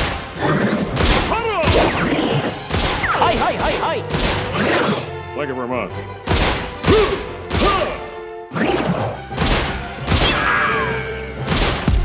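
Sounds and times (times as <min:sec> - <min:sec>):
film music score: 0:00.0 - 0:12.0.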